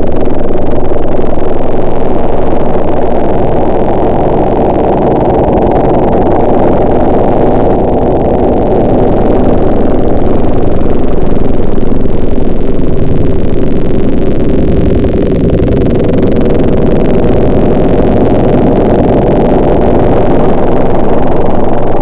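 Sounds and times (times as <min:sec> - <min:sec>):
loud engine running: 0:00.0 - 0:22.0.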